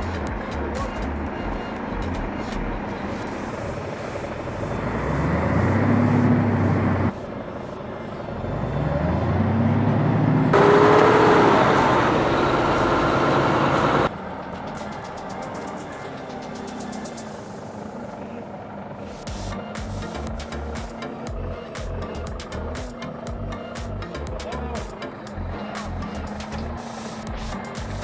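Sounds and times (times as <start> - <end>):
heavy vehicle engines revving: 0.0 - 28.0.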